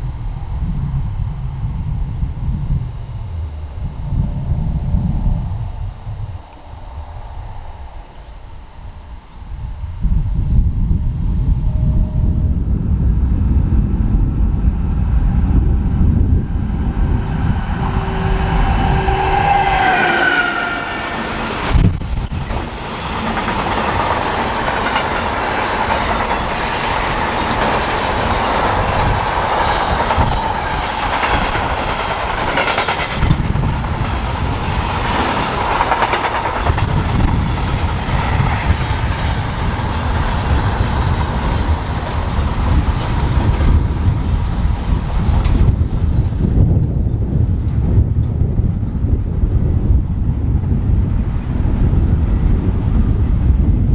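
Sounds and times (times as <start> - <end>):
electric train passing: 0.0 - 46.6, 50.2 - 53.9
wind buffeting microphone: 0.0 - 53.9.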